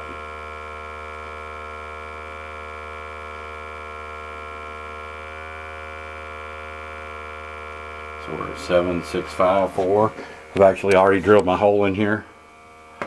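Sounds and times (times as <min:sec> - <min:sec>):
sampling pump humming: 0:00.0 - 0:13.0.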